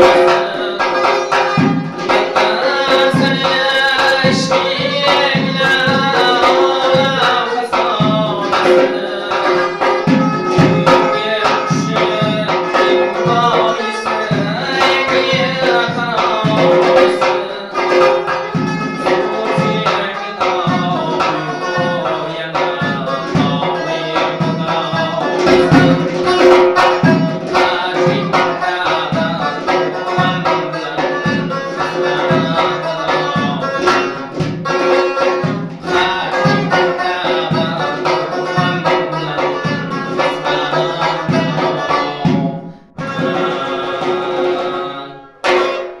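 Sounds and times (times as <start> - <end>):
frame drum beating: 0.0 - 46.0
long-necked lute playing: 0.0 - 46.0.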